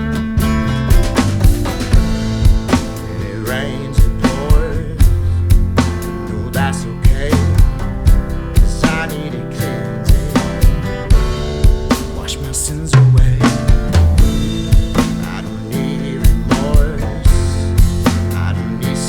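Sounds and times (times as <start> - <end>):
drum kit kick and snare: 0.0 - 19.0
guitar-driven rock backing track: 0.0 - 19.0.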